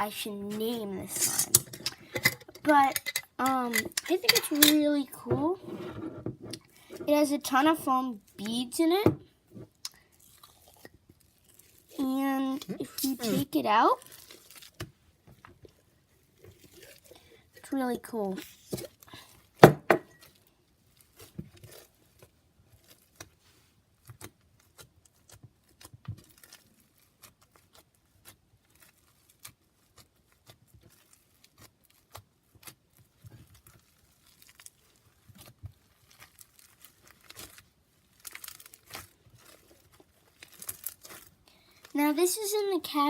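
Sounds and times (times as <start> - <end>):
foam bead slime crackling: 6.6 - 43.0.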